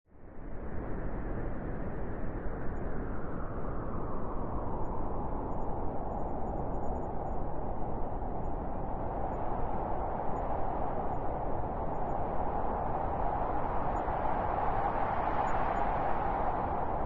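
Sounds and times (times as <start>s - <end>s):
wind blowing steadily: 0.1s - 17.0s.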